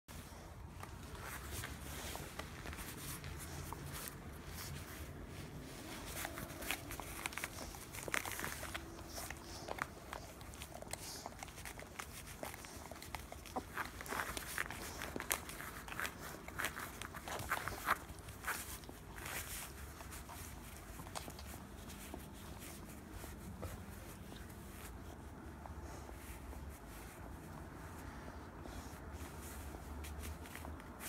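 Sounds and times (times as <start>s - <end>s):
faint low hum: 0.1s - 31.0s
puppies scuffling on mat: 0.1s - 31.0s.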